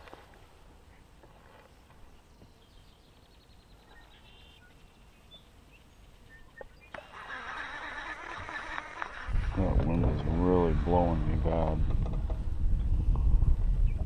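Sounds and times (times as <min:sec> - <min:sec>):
faint outdoor noise: 0:00.0 - 0:14.0.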